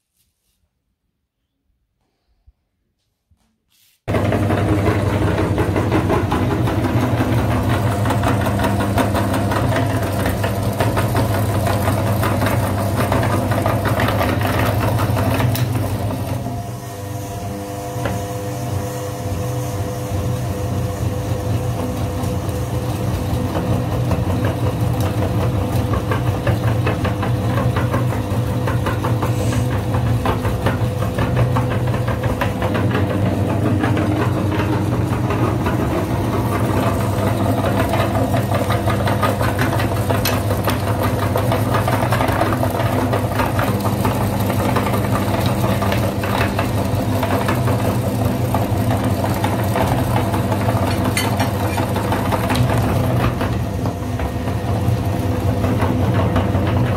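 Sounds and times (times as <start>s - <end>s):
electric meat grinder running: 4.1s - 56.9s.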